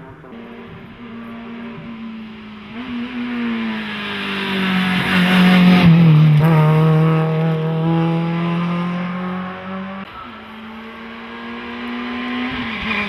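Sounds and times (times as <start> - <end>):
rally car engine passing by: 0.0 - 13.0.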